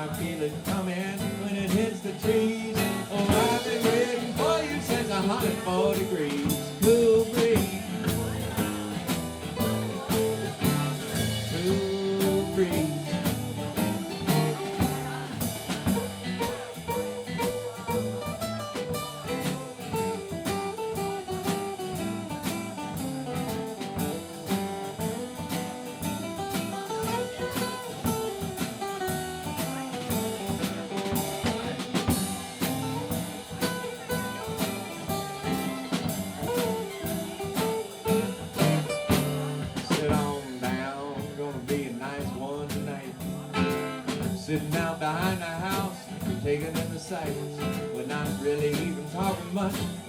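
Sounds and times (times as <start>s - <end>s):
drum kit beat: 0.0s - 50.0s
live country rock band: 0.0s - 50.0s
melodic guitar line: 0.0s - 50.0s.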